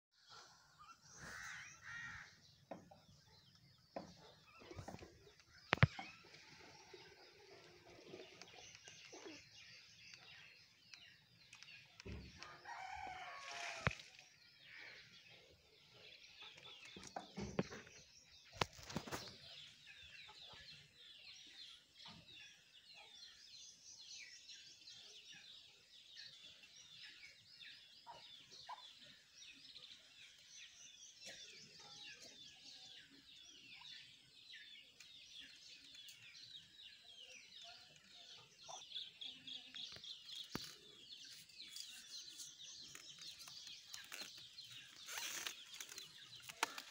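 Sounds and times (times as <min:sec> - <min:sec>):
small birds chirping: 0:00.2 - 0:46.9.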